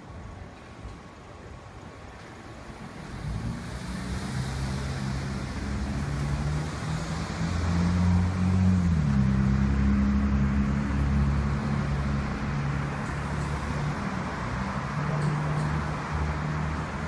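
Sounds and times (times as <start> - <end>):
vehicle engine approaching: 3.0 - 17.0.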